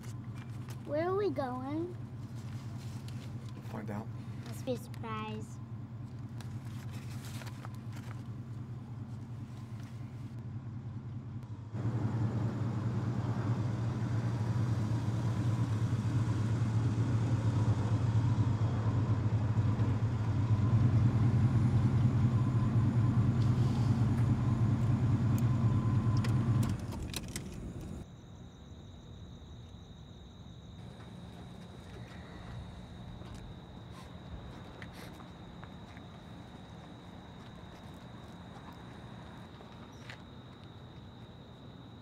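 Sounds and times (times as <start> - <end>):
car engine and road rumble: 0.0 - 28.1, 30.8 - 42.0.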